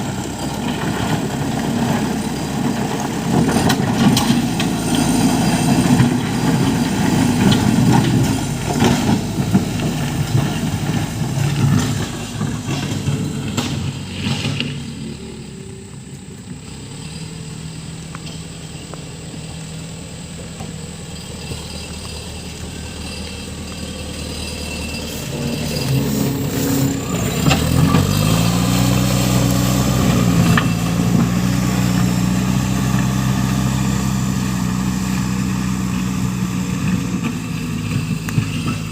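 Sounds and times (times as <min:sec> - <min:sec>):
diesel engine working: 0:00.0 - 0:38.9.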